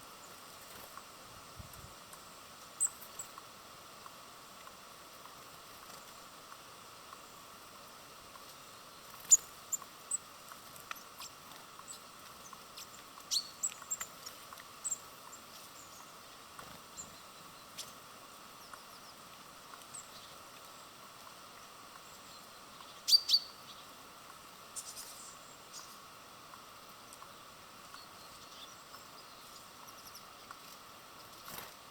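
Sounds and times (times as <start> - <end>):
faint steady hiss: 0.0 - 31.9
small birds chirping: 0.0 - 31.9.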